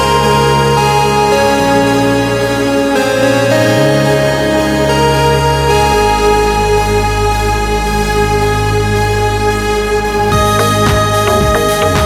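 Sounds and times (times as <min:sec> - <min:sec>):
background music of held chords: 0:00.0 - 0:12.0.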